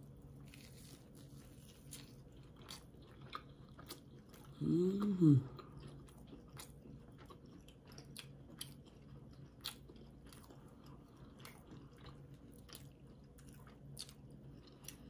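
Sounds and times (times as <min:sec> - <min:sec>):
low steady hum: 0:00.0 - 0:15.0
people chewing: 0:00.4 - 0:15.0.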